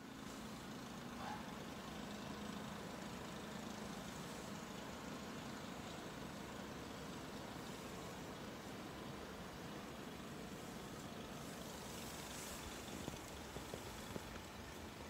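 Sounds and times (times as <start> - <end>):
even hiss: 2.2 - 15.0.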